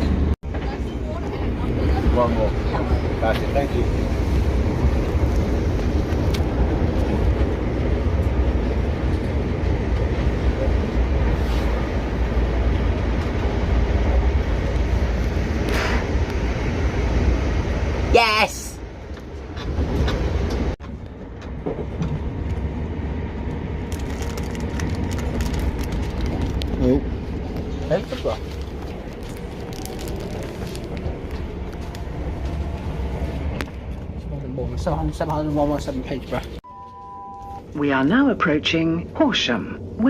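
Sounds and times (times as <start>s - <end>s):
electric train rumble: 0.0s - 36.6s.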